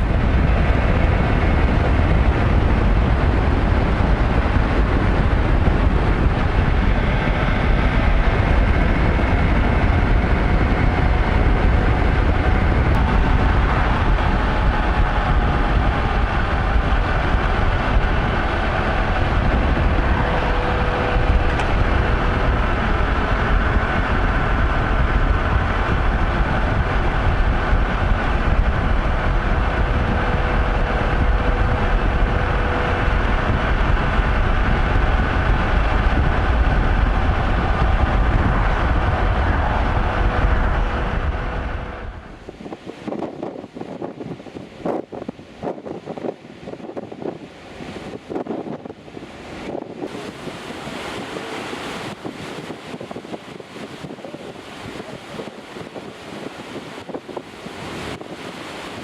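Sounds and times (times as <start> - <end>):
faint engine tones: 0.0 - 59.0
vehicle rumble: 0.0 - 59.0.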